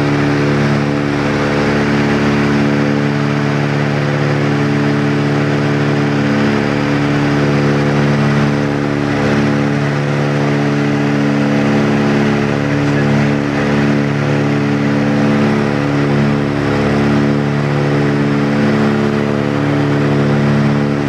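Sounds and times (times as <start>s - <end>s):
propeller plane cabin drone: 0.0s - 21.0s.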